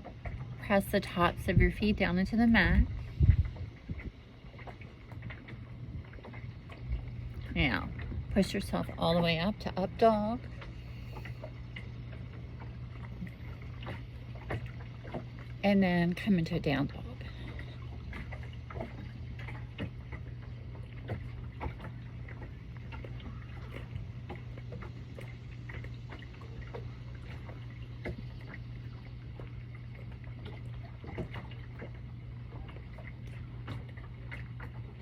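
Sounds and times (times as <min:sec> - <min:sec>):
steady low hum: 0:00.0 - 0:35.0
water sounds: 0:00.0 - 0:35.0.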